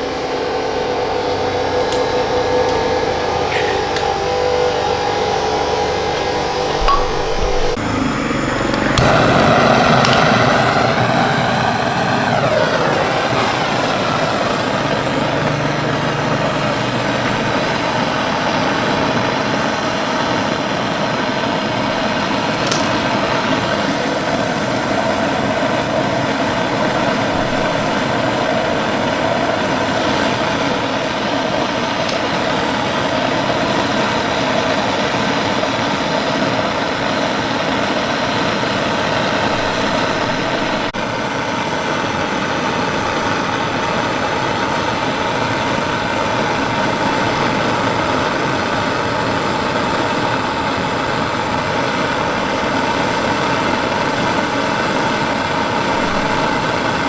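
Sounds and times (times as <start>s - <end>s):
motor running with whine: 0.0s - 57.0s.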